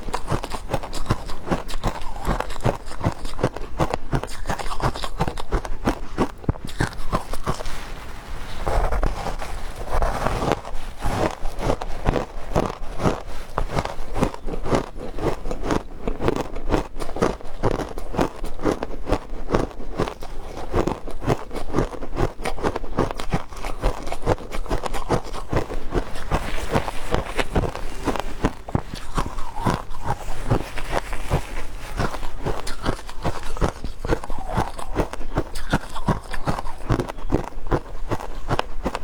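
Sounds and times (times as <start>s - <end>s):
ice being chewed: 0.0s - 39.0s.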